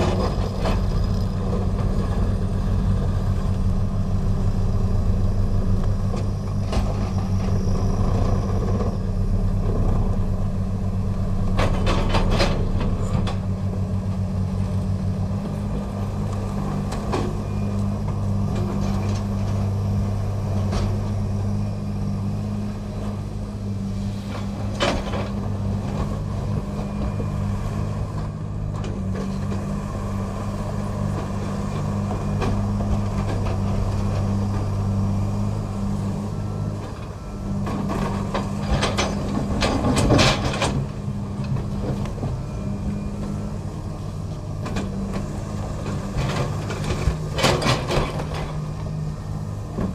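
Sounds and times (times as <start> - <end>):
excavator diesel engine running: 0.0 - 49.9
hydraulic ripper working rock: 0.0 - 49.9.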